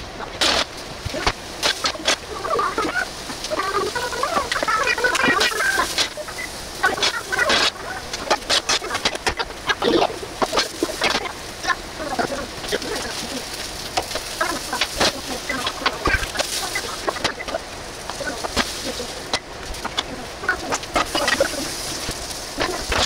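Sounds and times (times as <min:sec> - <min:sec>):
vegetables sizzling in a frying pan: 0:00.4 - 0:23.0.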